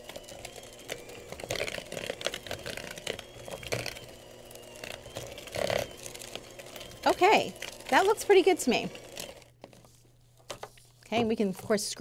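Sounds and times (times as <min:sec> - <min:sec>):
electric hand mixer: 0:00.0 - 0:09.8
beaters clicking and scraping bowl: 0:00.0 - 0:09.9.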